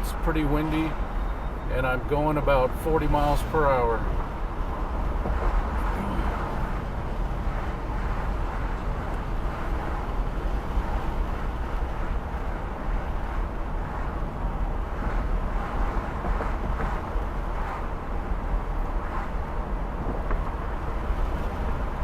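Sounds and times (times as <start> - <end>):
road noise: 0.0 - 22.0
wind buffeting through car windows: 0.0 - 22.0.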